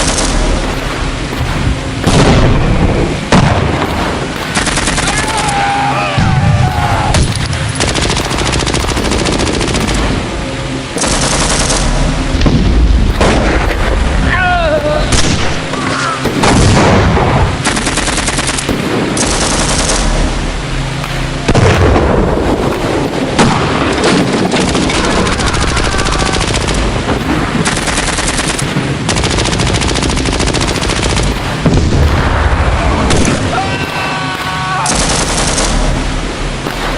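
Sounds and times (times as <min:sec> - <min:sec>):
rapid machine-gun bursts: 0:00.0 - 0:05.8, 0:07.5 - 0:12.4, 0:15.0 - 0:36.9.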